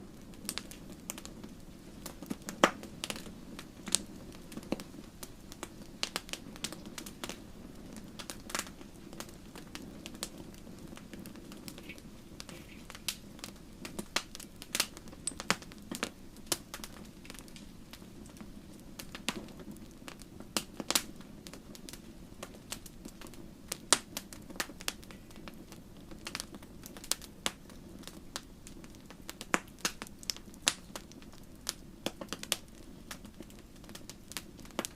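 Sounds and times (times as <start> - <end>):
low rush of flames: 0.0 - 34.9
wood fire crackling: 0.0 - 34.9.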